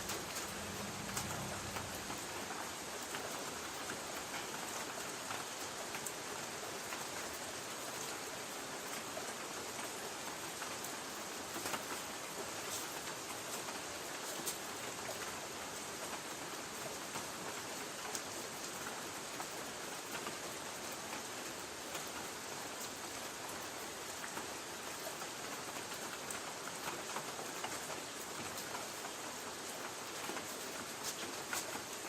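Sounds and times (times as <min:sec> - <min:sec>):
light rain on a tin roof: 0:00.0 - 0:32.0.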